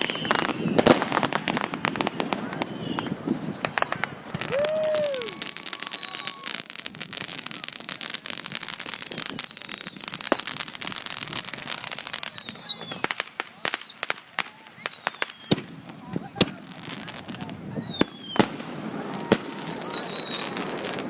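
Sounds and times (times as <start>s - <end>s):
firework whistles falling in pitch: 0.0s - 1.3s, 2.2s - 7.6s, 8.6s - 21.0s
fireworks crackling pops: 0.0s - 21.0s.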